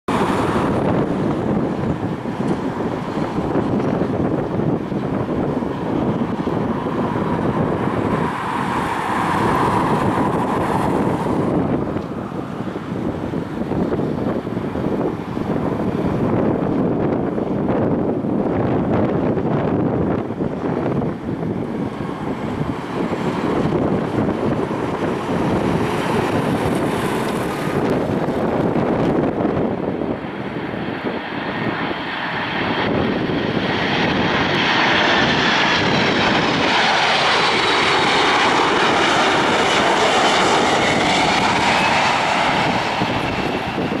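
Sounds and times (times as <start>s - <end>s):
high jet whine: 0.0s - 44.0s
jet engines rushing: 0.0s - 44.0s.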